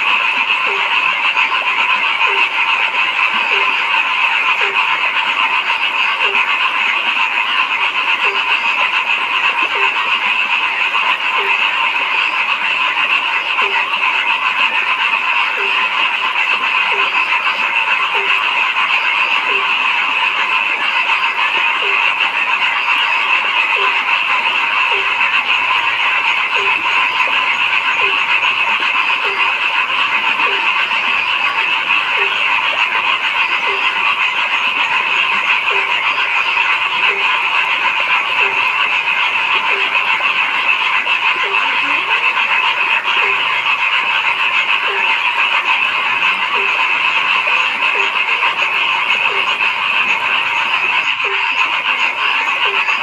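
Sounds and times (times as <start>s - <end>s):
chorus of frogs calling: 0.0s - 53.0s
low-pitched frog croaking: 0.0s - 53.0s.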